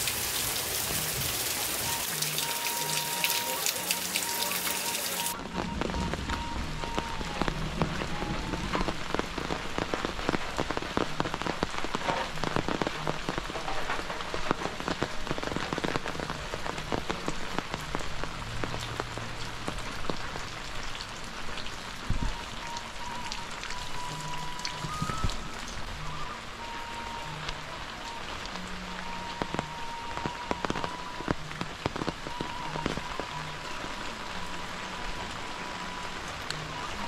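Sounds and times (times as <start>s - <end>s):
close raindrops: 0.0s - 37.0s
rain pattering: 0.0s - 37.0s.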